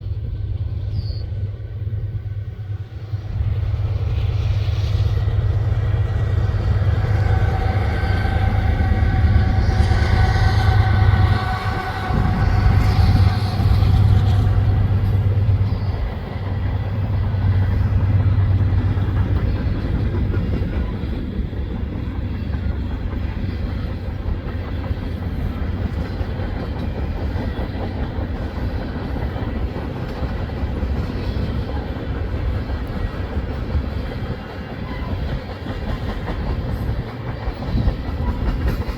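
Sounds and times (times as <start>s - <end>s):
diesel locomotives passing: 0.0s - 38.9s
train cars rolling by: 0.0s - 38.9s.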